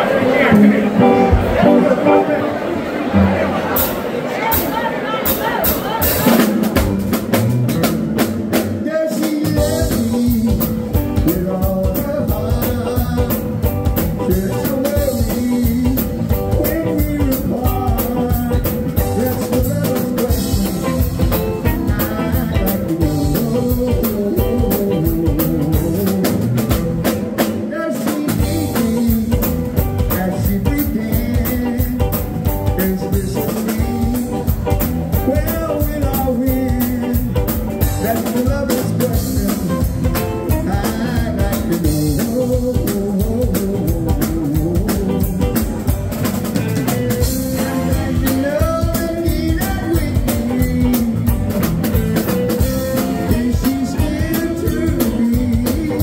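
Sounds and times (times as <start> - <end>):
live band playing: 0.0 - 56.0
man singing into microphone: 8.7 - 45.8, 47.2 - 51.6, 52.6 - 56.0.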